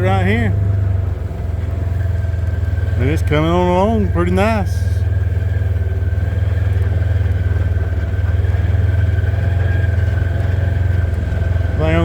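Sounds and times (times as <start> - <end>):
vehicle engine running steadily: 0.0 - 12.0.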